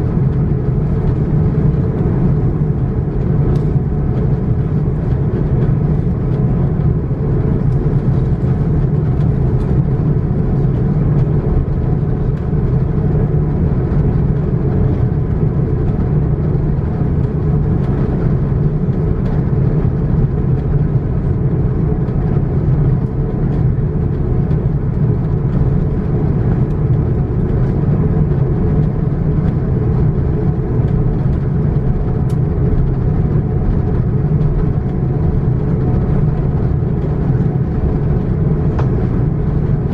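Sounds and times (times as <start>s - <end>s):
airplane cabin hum: 0.0s - 39.9s.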